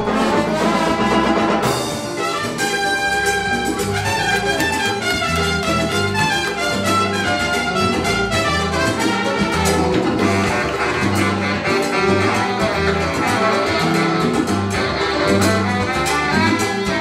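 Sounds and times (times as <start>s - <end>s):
horns: 0.0s - 17.0s
salsa band playing: 0.0s - 17.0s
steady percussion: 0.0s - 17.0s
syncopated bass line: 0.0s - 17.0s.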